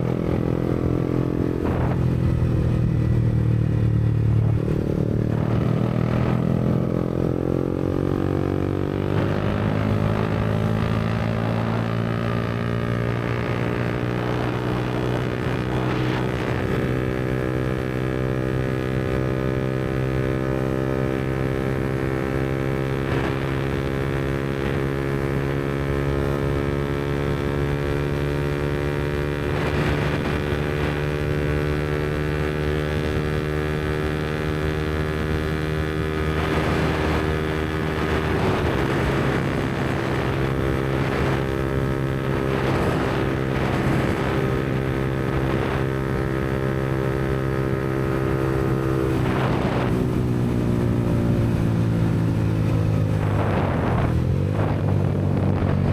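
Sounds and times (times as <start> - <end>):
motorcycle engine running steadily: 0.0 - 55.9.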